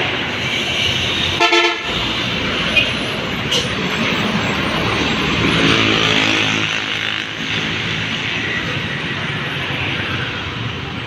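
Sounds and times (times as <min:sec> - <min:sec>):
bus passing by: 0:00.0 - 0:11.0.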